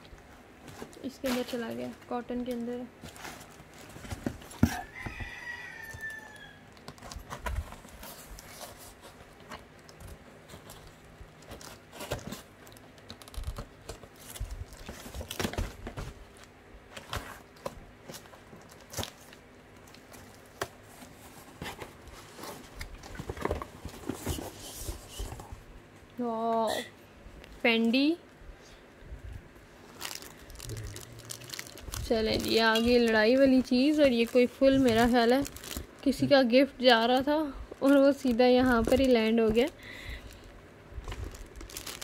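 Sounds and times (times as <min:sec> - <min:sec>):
cardboard and plastic rustling: 0:00.0 - 0:25.7, 0:29.2 - 0:42.0.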